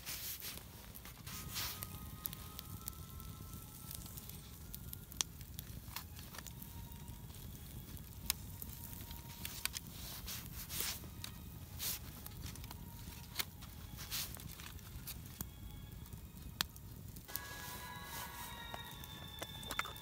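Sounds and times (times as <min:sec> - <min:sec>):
campfire crackling: 0:00.0 - 0:20.0
low fire rumble: 0:00.0 - 0:20.0.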